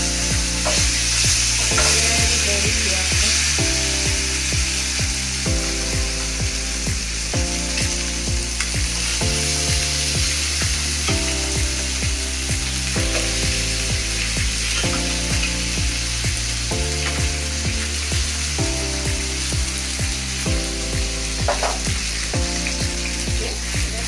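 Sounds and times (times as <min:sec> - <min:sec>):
background music with steady beat: 0:00.0 - 0:24.0
chicken wings sizzling: 0:00.0 - 0:24.0.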